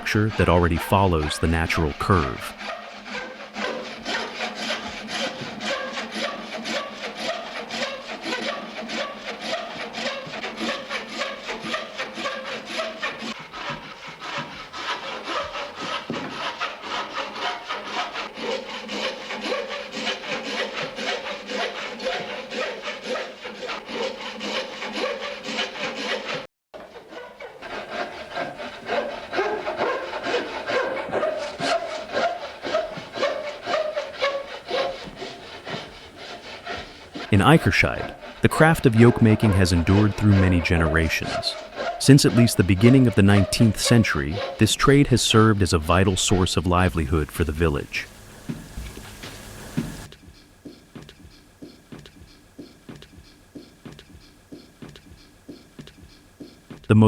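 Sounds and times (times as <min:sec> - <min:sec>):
hand saw cutting wood: 0:00.0 - 0:57.0.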